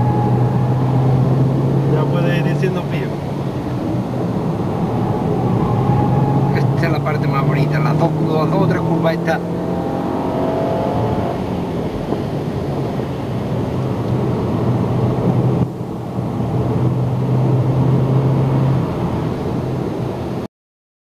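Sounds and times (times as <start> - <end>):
car engine and tyre noise: 0.0 - 20.5.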